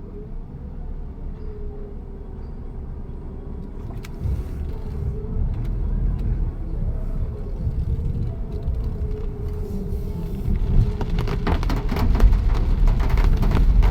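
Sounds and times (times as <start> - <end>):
vehicle engine rumbling: 0.0 - 13.9.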